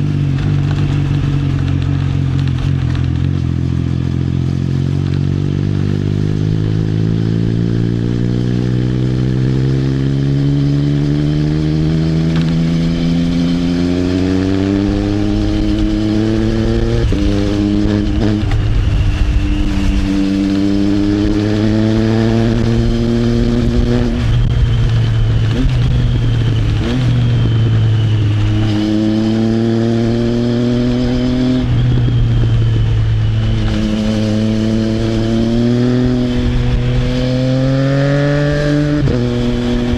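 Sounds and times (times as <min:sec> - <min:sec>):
motorcycle engine revving and upshifting: 0:00.0 - 0:39.9.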